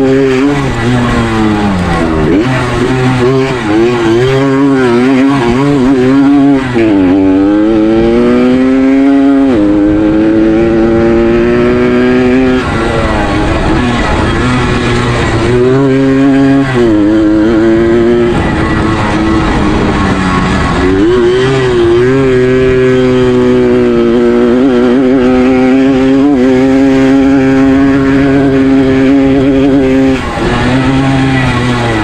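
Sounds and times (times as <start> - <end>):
two-stroke engine at high revs: 0.0 - 32.0.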